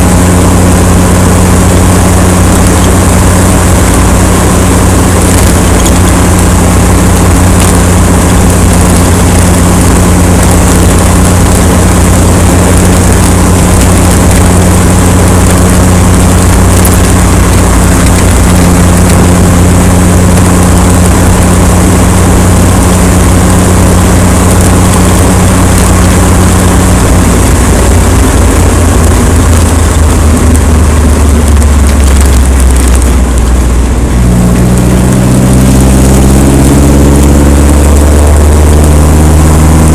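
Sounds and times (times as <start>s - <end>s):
vehicle engine droning: 0.0s - 39.9s
wind noise on microphone: 0.0s - 39.9s.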